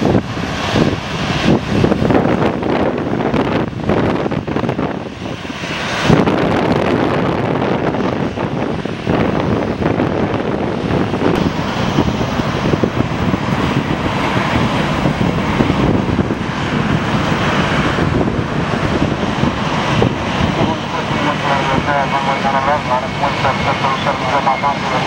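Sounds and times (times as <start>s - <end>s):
jet airliner engines rushing: 0.0s - 25.0s
wind buffeting microphone: 0.0s - 25.0s.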